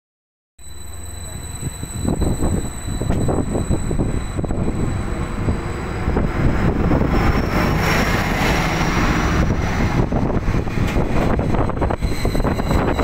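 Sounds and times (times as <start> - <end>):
train whine: 0.6 - 13.0
wind buffeting microphone: 1.6 - 13.0.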